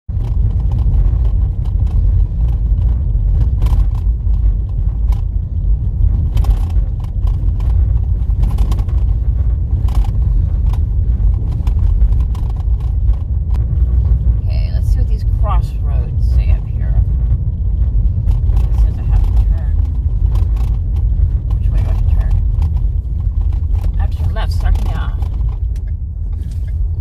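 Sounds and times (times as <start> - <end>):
road noise rumble: 0.0 - 27.0
knocks and rattles: 0.1 - 27.0.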